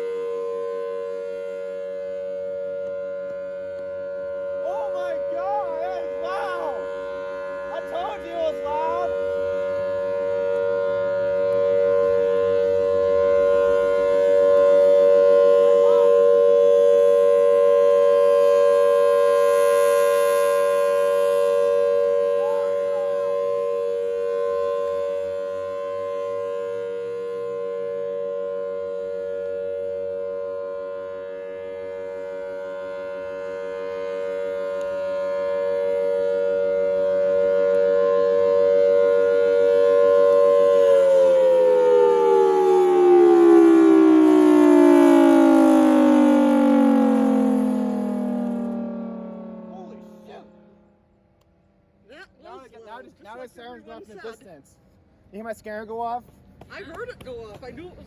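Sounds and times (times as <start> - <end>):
tornado siren two-note chord: 0.0 - 51.2.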